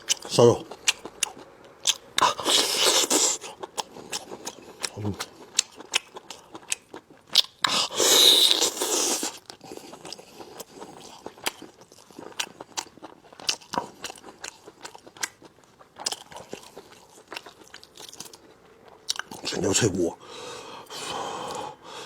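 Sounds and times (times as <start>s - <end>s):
chewing and crunching: 0.0s - 19.9s.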